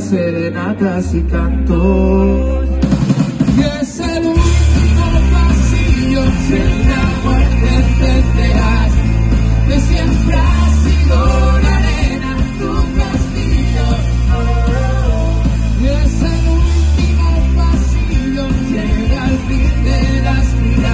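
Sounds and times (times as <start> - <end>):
electric guitars: 0.0 - 20.9
heavy bass line: 0.0 - 20.9
live rock band playing: 0.0 - 20.9.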